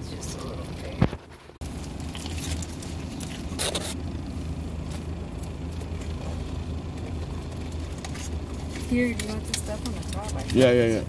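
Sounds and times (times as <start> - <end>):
car cabin engine hum: 0.0 - 11.0.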